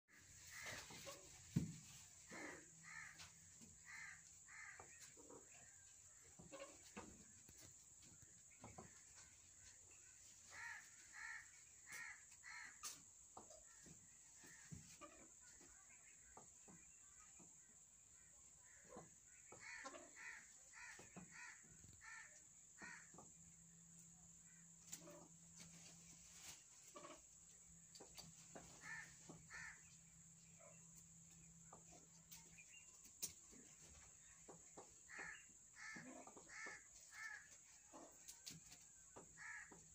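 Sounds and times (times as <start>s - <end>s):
faint harsh bird calls: 0.1s - 27.3s, 27.9s - 39.9s.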